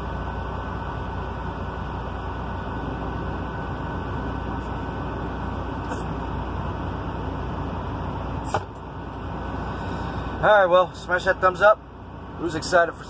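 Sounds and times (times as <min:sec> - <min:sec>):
truck cab low hum: 0:00.0 - 0:13.0.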